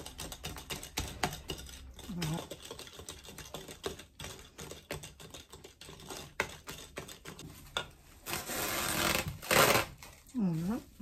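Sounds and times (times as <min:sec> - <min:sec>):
utensil scraping glass bowl: 0:00.0 - 0:10.2.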